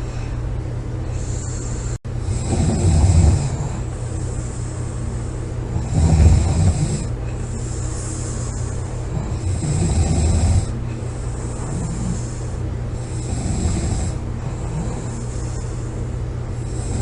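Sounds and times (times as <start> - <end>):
low background hum: 0.0 - 17.0
person snoring loudly: 1.1 - 5.1, 5.7 - 15.9, 16.5 - 17.0.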